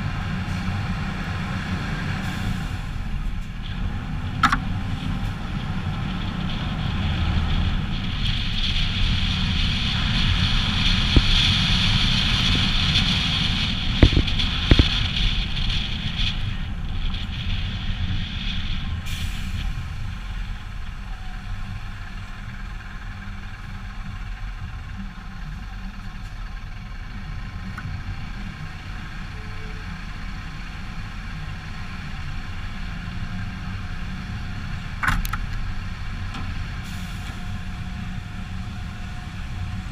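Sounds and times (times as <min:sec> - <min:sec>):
diesel truck engine rumbling: 0:00.0 - 0:39.9.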